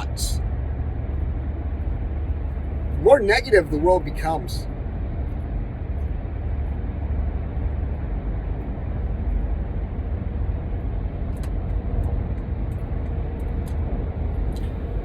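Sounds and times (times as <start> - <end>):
car low rumble: 0.0 - 15.0.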